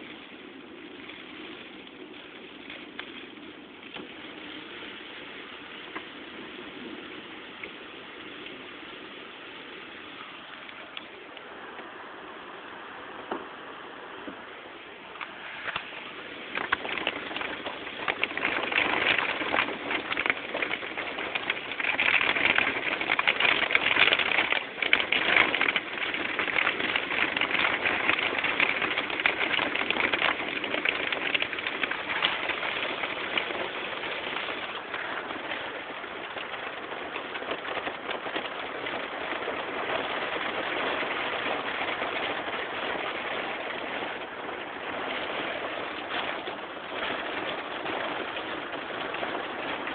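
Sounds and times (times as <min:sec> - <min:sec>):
heavy rain on car roof: 0:00.0 - 0:49.9.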